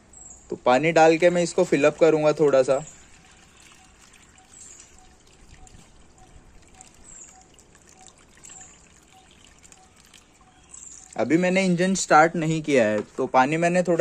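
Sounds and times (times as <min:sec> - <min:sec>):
water trickling through funnel: 0:01.1 - 0:12.6.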